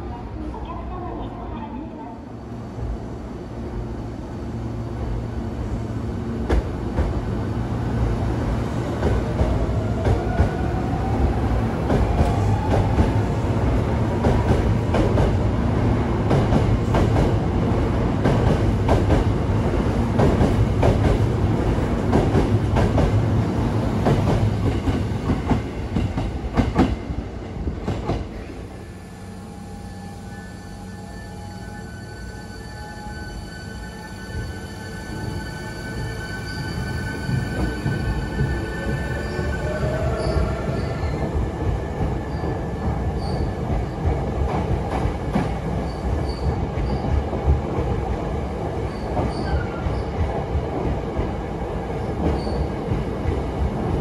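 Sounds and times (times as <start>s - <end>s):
low train rumble: 0.0s - 54.0s.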